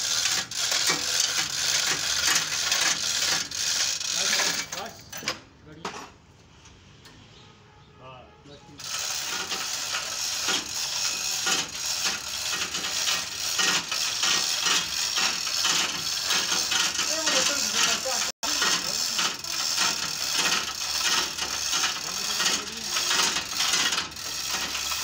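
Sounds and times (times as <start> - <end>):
chain hoist rattling and ratcheting: 0.0 - 5.4, 8.8 - 25.0.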